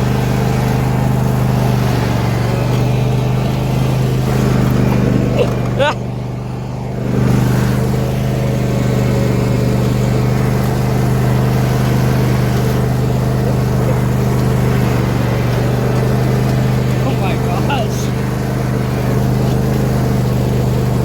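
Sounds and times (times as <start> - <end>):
lawn tractor engine droning: 0.0 - 21.0.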